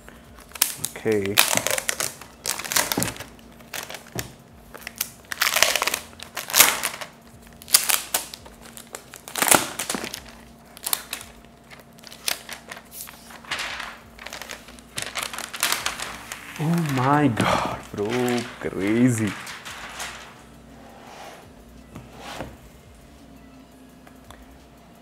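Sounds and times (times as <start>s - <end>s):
plastic wrap crinkling: 0.4s - 20.6s.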